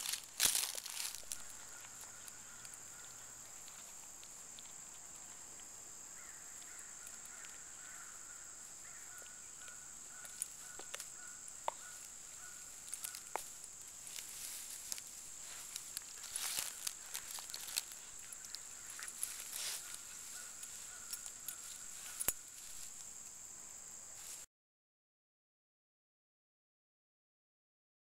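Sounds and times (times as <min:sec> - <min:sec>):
faint distant bird calling: 0:00.0 - 0:22.8.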